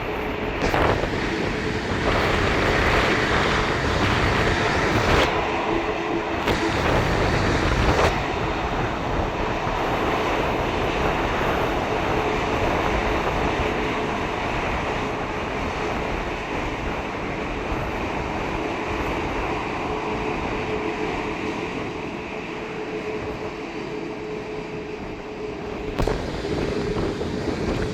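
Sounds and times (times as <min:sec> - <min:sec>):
jet engines running: 0:00.0 - 0:27.9
wind buffeting microphone: 0:00.0 - 0:27.9.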